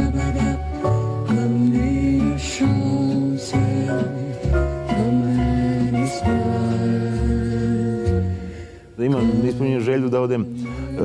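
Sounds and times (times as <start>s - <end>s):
low bass line: 0.0s - 11.0s
slow music with held notes: 0.0s - 11.0s.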